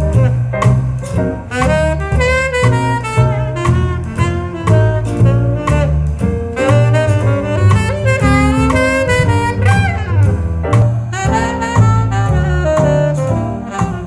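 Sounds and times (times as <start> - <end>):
jazz through a loudspeaker: 0.0 - 14.0.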